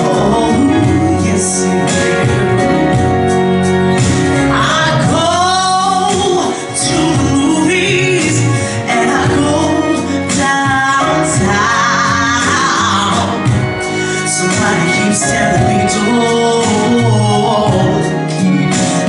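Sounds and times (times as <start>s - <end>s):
woman singing ballad: 0.0s - 2.8s, 4.2s - 19.0s
keyboard chords: 0.0s - 19.0s.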